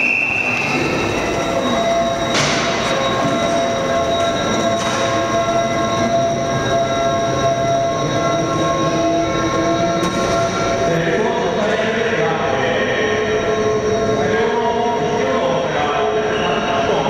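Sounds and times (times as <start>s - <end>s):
lifting machinery whining: 0.0s - 17.0s
noisy hum: 0.0s - 17.0s.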